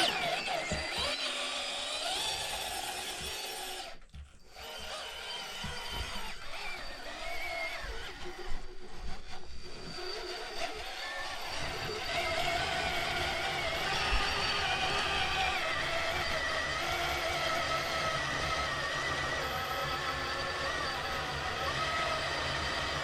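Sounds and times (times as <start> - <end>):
electric motor and gears whining: 0.0 - 23.0.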